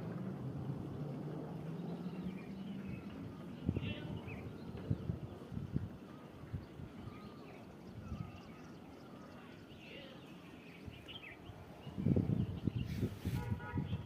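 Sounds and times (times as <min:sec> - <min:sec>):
wind buffeting microphone: 0:00.0 - 0:09.8, 0:10.7 - 0:14.0
small birds chirping: 0:00.7 - 0:13.3.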